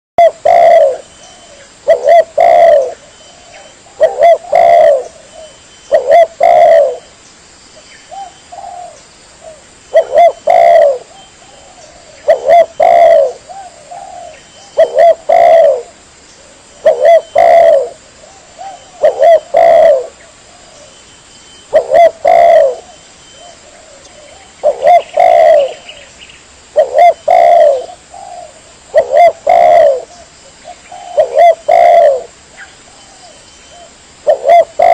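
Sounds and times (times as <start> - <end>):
dove cooing: 0.2 - 7.1, 8.1 - 26.1, 26.7 - 34.9.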